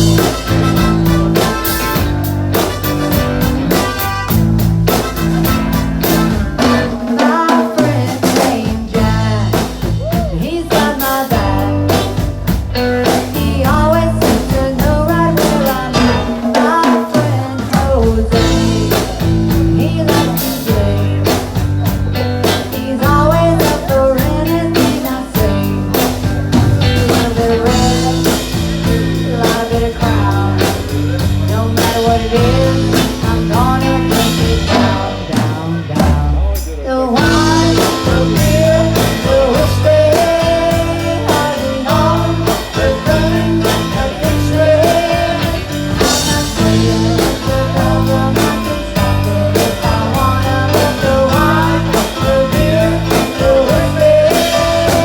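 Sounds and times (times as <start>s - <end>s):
person singing: 0.0s - 2.9s, 6.0s - 55.0s
live blues-rock band: 0.0s - 55.0s.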